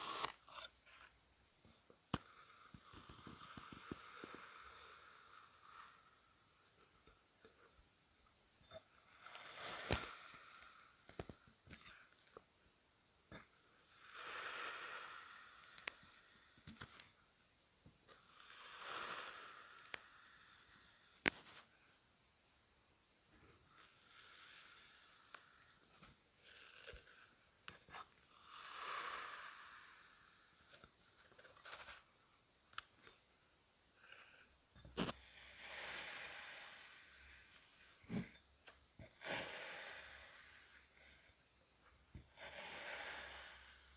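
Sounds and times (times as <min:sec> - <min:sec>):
soft hiss: 0:00.0 - 0:43.9.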